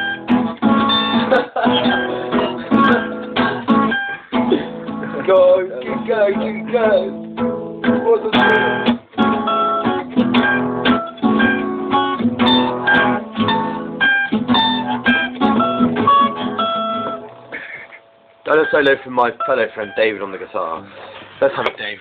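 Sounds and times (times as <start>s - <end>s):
acoustic guitar strumming chords: 0.0s - 20.5s.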